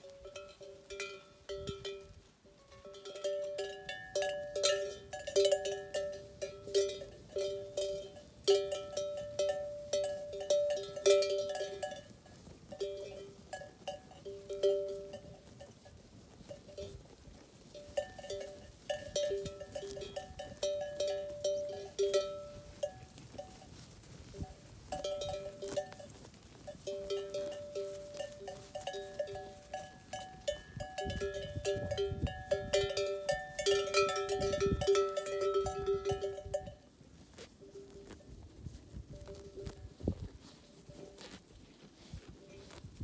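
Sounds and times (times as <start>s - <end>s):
sheep bells clanking: 0.0s - 42.8s.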